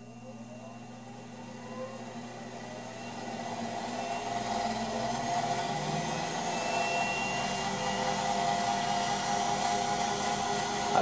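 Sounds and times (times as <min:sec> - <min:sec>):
motor fan whirring with rushing air: 0:00.0 - 0:11.0.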